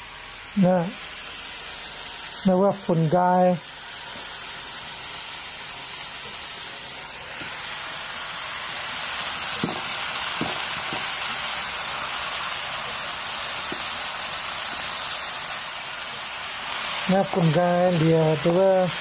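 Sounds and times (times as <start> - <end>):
greens sizzling in a pan: 0.0 - 19.0.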